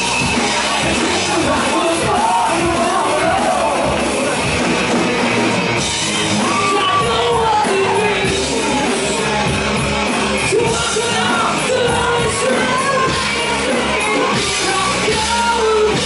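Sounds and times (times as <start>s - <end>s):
singer belting vocals: 0.0s - 4.6s, 6.2s - 16.0s
live rock band playing: 0.0s - 16.0s.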